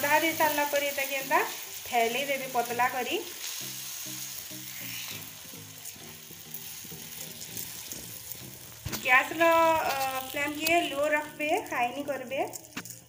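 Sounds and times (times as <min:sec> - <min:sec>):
metal spatula on pan: 0:00.0 - 0:11.6
batter sizzling in oil: 0:00.0 - 0:13.0.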